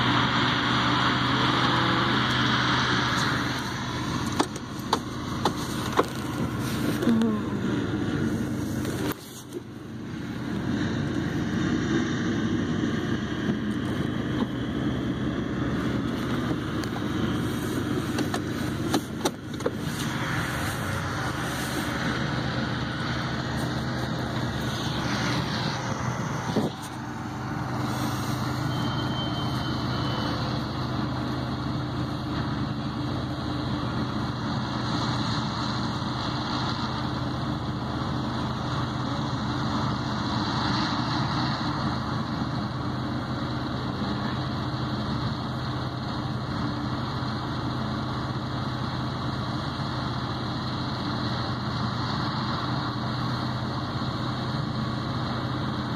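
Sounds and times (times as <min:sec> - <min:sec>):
vehicle engine humming: 0:00.0 - 0:55.9.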